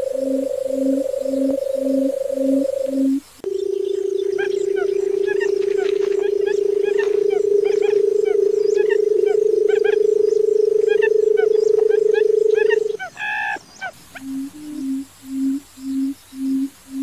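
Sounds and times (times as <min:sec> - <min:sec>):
bird drumming hum: 0:00.0 - 0:17.0.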